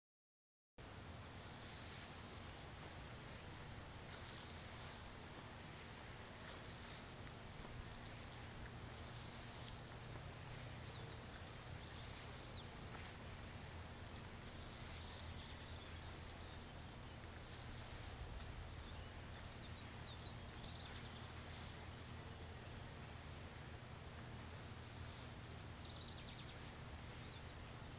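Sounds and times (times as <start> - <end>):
low steady rumble: 0.8 - 27.9.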